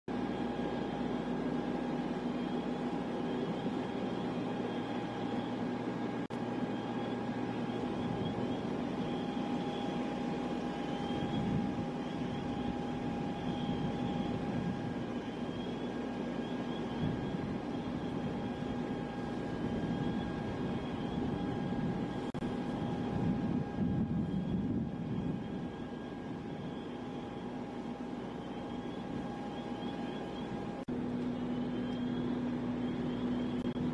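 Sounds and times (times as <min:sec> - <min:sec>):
constant whine: 0:00.1 - 0:33.9
helicopter in flight: 0:00.1 - 0:33.9.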